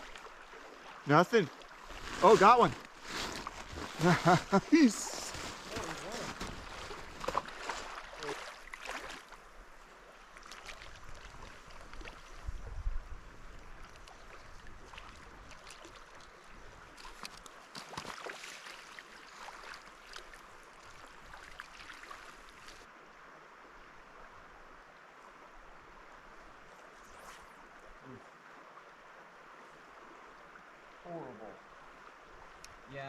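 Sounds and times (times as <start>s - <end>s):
river water rushing and splashing: 0.0s - 12.6s, 13.7s - 33.0s.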